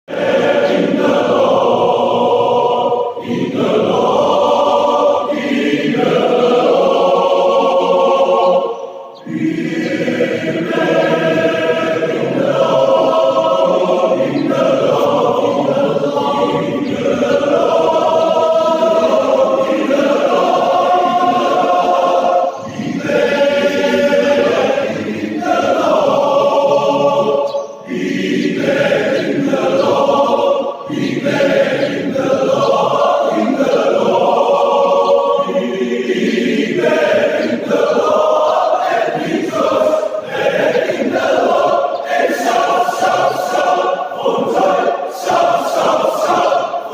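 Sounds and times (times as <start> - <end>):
men's choir singing in parts: 0.1 - 46.9.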